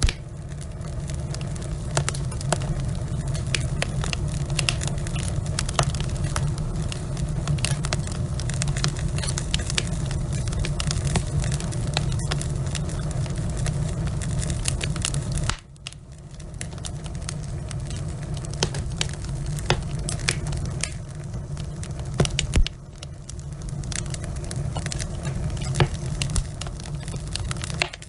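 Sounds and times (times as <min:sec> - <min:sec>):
fire rumbling: 0:00.0 - 0:28.0
logs crackling and popping: 0:00.0 - 0:28.0.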